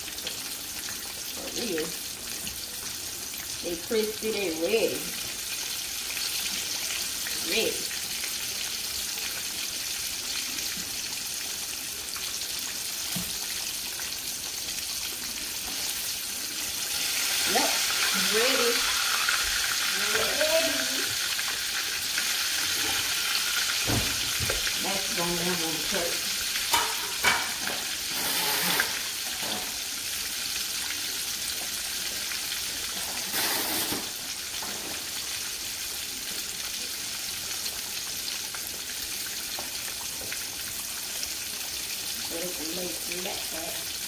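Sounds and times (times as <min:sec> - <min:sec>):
fish frying in hot oil: 0:00.0 - 0:44.0.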